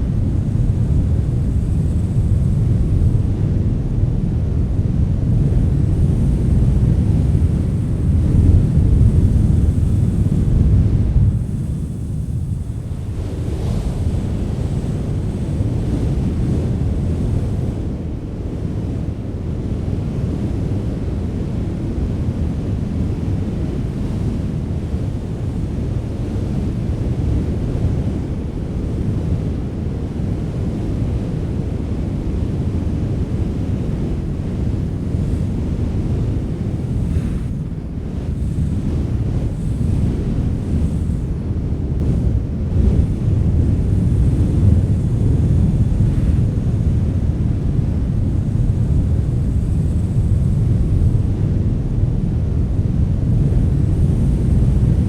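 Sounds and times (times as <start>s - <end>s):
wind blowing: 0.0s - 55.0s.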